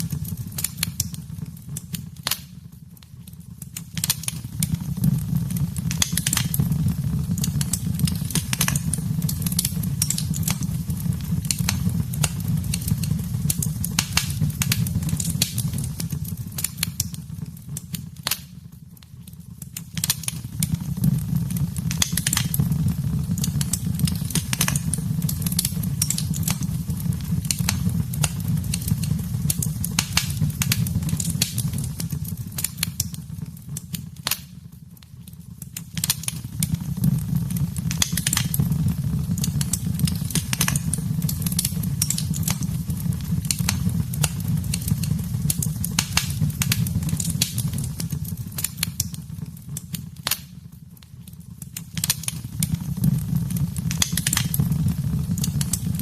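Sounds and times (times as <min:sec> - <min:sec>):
low rumble of flames: 0:00.0 - 0:56.0
wood fire crackling and popping: 0:00.0 - 0:56.0.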